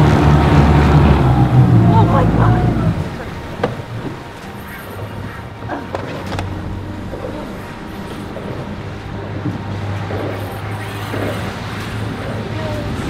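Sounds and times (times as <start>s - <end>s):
boat motor humming: 0.0s - 13.0s
water rushing past hull: 0.0s - 13.0s.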